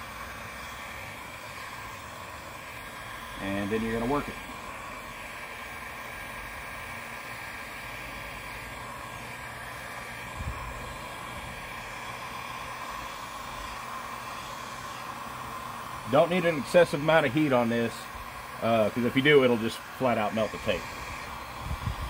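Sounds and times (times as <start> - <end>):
heat gun blowing: 0.0 - 22.0.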